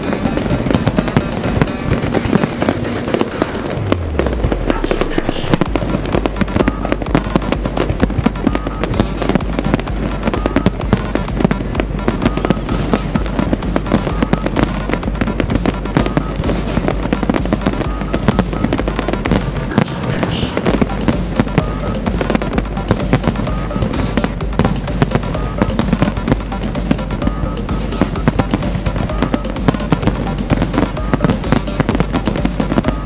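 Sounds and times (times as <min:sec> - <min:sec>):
fireworks crackling and banging: 0:00.0 - 0:33.0
music playing: 0:00.0 - 0:33.0.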